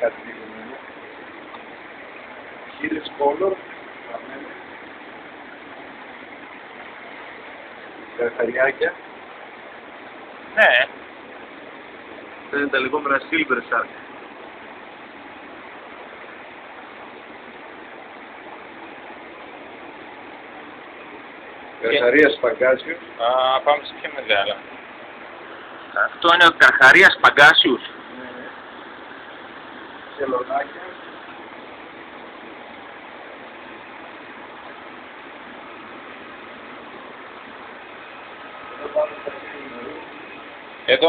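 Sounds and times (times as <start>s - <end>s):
running water and aeration hiss: 0.0s - 41.0s.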